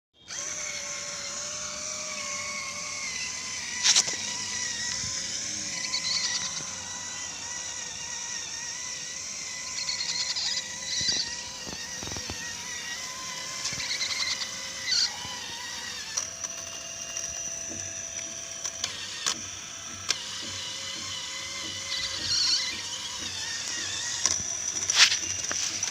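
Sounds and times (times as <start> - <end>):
clicks and squeaks of moving parts: 0.2 - 25.9
small electric motor whining: 0.2 - 25.9.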